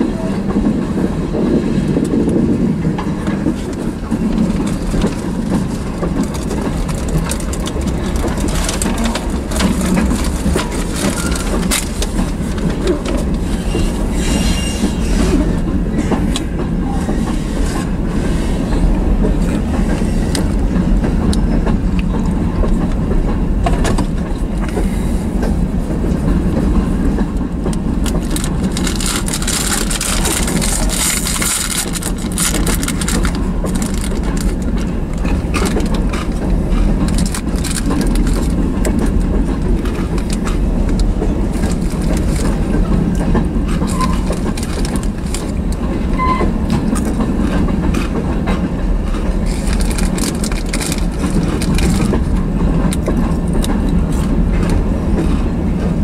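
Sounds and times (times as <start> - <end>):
steel wheels on rail: 0.0 - 56.0
wheels clicking over rail joints: 0.0 - 56.0.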